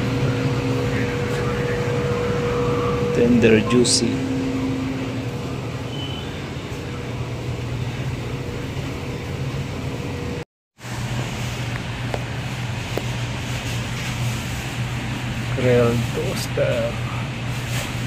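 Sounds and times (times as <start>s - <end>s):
low hum of refrigeration: 0.0s - 18.0s.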